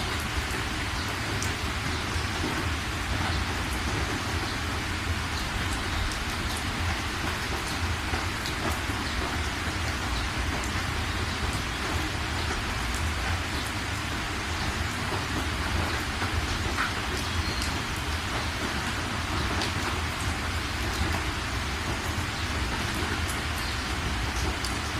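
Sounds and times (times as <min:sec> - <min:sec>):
steady rain: 0:00.0 - 0:24.9
sharp raindrop ticks: 0:00.1 - 0:24.9.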